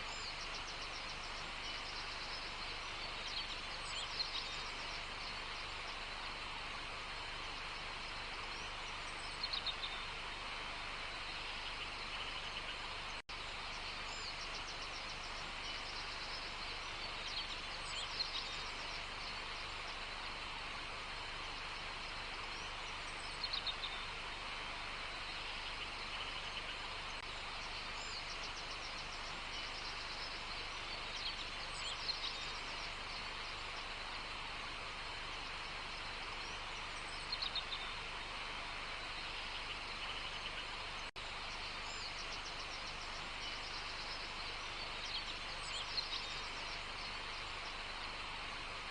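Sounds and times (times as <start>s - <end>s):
birds chirping: 0.0s - 48.9s
steady outdoor hiss: 0.0s - 48.9s.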